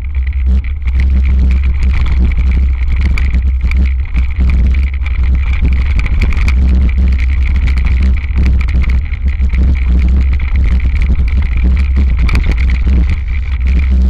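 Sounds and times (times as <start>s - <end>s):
bike rattling and clicking: 0.0s - 14.0s
wind rumble on microphone: 0.0s - 14.0s.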